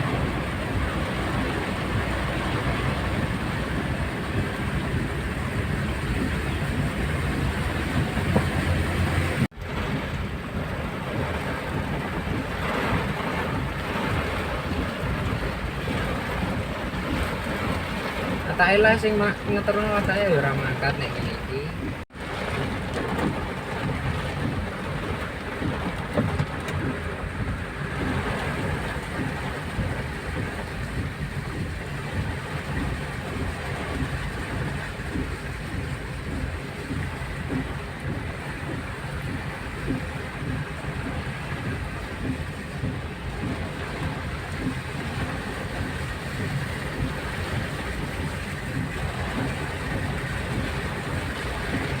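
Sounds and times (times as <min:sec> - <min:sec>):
wind and rain storm rushing: 0:00.0 - 0:52.0.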